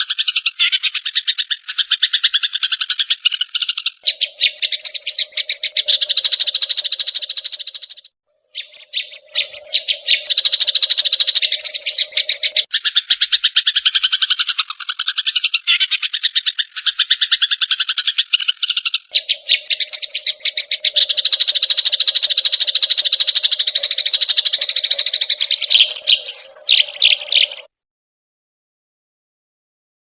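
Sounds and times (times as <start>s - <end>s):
sparrows chattering: 0.0s - 27.7s.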